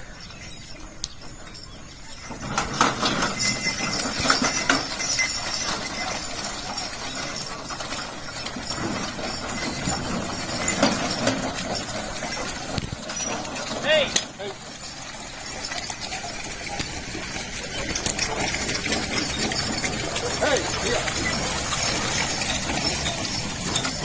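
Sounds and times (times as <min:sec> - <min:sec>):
cart rattling and knocking: 0:00.0 - 0:24.0
hooves clopping: 0:00.0 - 0:24.0.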